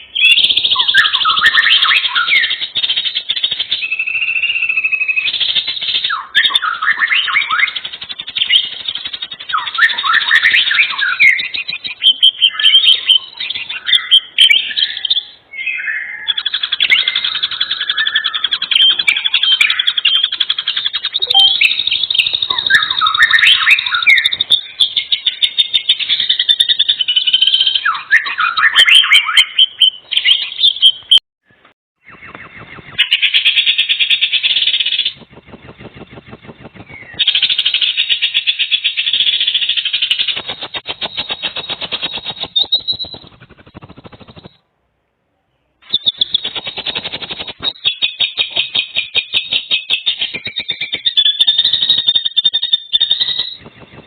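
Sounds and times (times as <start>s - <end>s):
birdsong chirps and trills: 0.0s - 44.6s, 45.4s - 54.0s.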